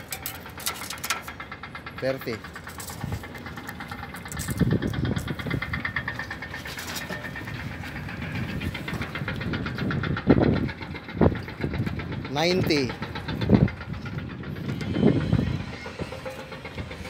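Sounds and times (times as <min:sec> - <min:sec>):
engine running with even knocking: 0:00.0 - 0:17.0.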